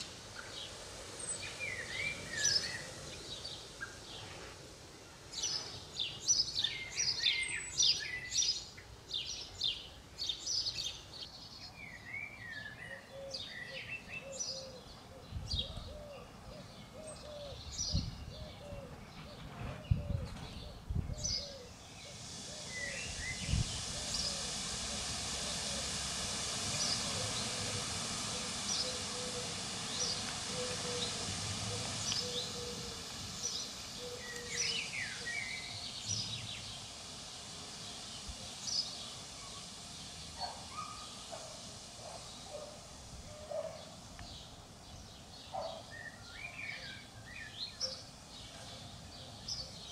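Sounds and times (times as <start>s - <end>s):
outdoor hiss: 0.0s - 49.9s.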